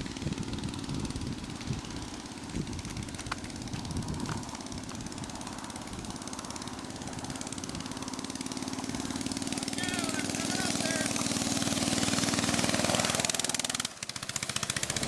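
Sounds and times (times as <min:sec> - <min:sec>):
go-kart engine putter: 0:00.0 - 0:15.0.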